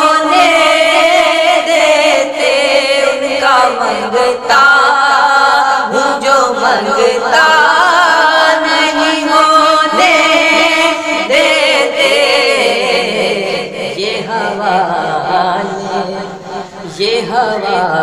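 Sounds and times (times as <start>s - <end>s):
two men singing: 0.0s - 18.0s.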